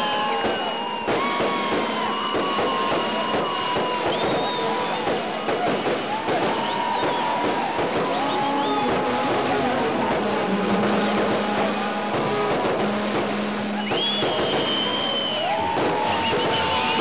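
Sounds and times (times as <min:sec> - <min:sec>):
fireworks crackling and popping: 0:00.0 - 0:17.0
fireworks whistling: 0:00.0 - 0:17.0.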